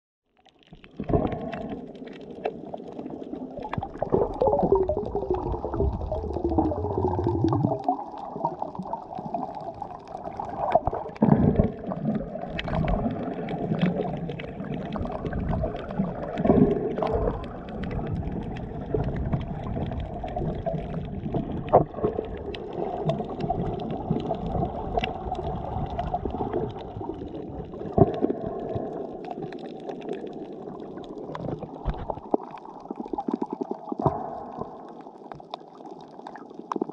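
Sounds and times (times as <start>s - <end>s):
underwater water gurgling and bubbles: 0.3s - 36.9s.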